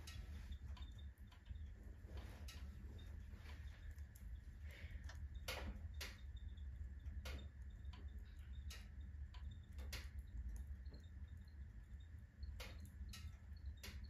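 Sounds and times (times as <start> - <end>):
burning logs crackling and popping: 0.0 - 14.0
low rumble of flames: 0.0 - 14.0.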